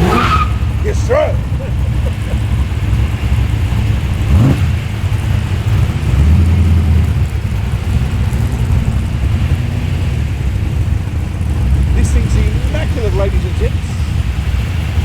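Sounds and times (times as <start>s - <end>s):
car engine revving: 0.0s - 15.0s
car engines rumbling: 0.0s - 15.0s.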